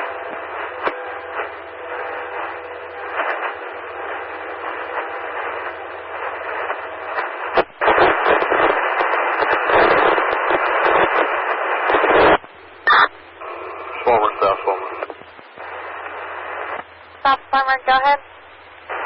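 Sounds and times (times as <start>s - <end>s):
scanner radio static hiss: 0.0s - 19.0s.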